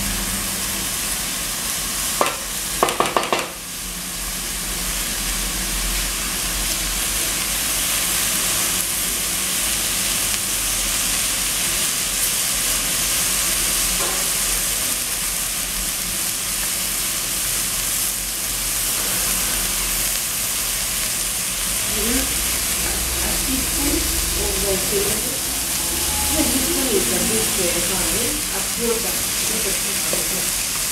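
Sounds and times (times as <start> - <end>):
cabbage sizzling in a pot: 0.0 - 30.9.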